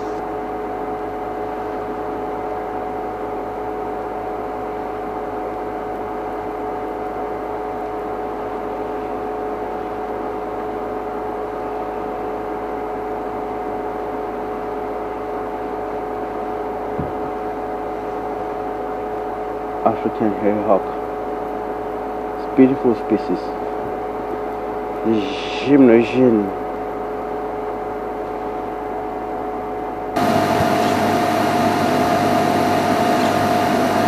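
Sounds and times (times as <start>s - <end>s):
steady hum with held tones: 0.0s - 34.0s.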